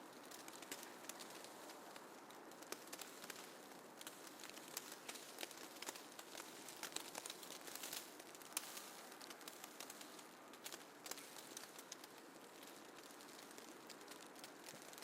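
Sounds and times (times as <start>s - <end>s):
snowflakes ticking and crackling: 0.0s - 15.0s
soft hiss of falling snow: 0.0s - 15.0s.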